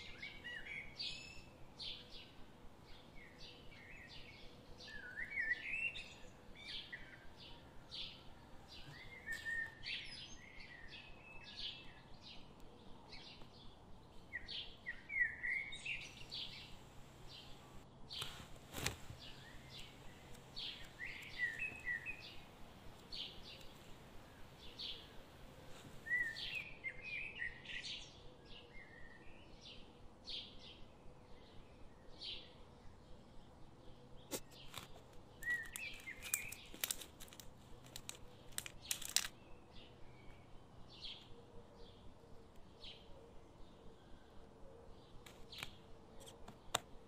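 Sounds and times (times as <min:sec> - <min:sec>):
small songbirds chirping: 0:00.0 - 0:47.0.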